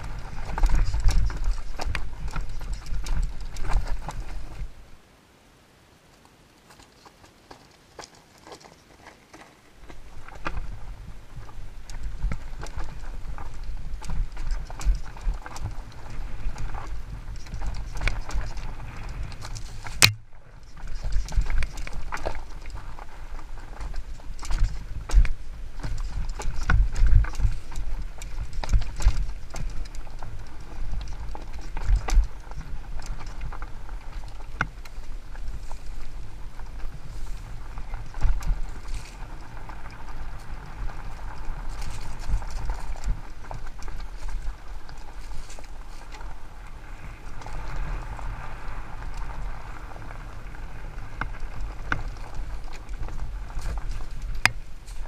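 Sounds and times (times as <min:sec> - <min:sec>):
bike rattling over bumps: 0:00.0 - 0:04.8, 0:07.1 - 0:55.0
bike tyres on dirt and rock: 0:00.0 - 0:05.2, 0:06.0 - 0:55.0
steady low rumble: 0:09.9 - 0:55.0.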